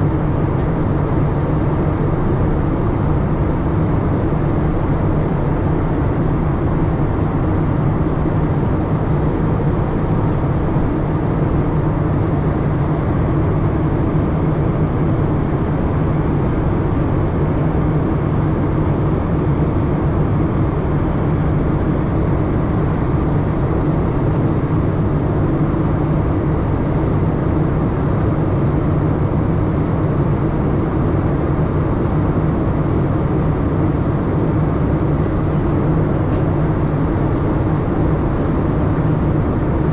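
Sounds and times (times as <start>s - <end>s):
airliner cabin noise: 0.0s - 39.9s
constant low hum: 0.0s - 39.9s.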